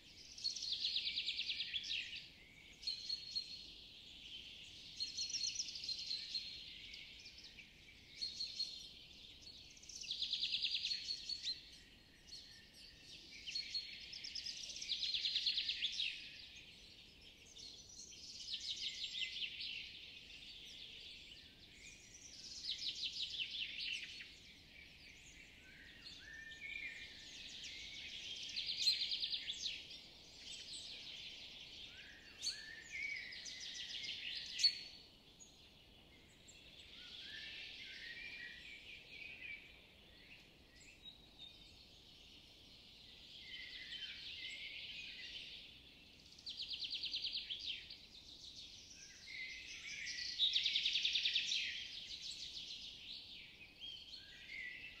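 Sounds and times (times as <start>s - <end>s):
faint background hiss: 0.0s - 55.0s
songbirds trilling and chirping: 0.0s - 55.0s.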